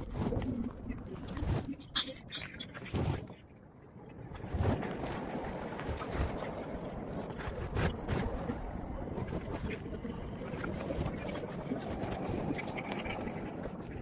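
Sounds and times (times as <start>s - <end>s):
steady background rush: 0.0s - 14.0s.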